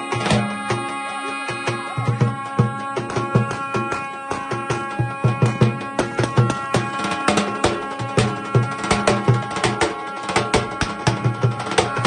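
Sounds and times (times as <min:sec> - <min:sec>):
drums in dance rhythm: 0:00.0 - 0:12.0
shrill reed pipe notes: 0:00.0 - 0:12.0.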